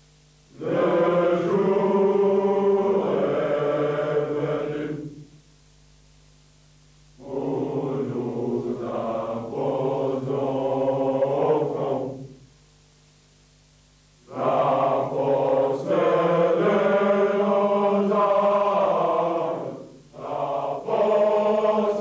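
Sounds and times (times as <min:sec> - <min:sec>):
male chorus singing: 0:00.5 - 0:05.2, 0:07.2 - 0:12.4, 0:14.2 - 0:22.0.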